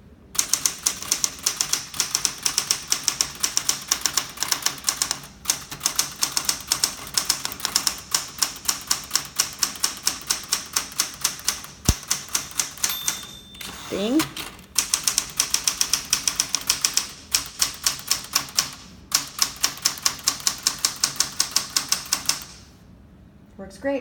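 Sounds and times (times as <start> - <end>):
manual typewriter typing fast: 0.4 - 22.7.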